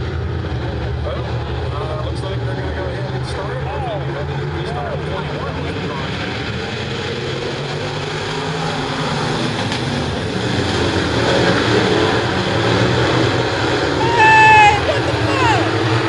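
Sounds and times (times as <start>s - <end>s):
race car engines at full throttle: 0.0s - 16.0s.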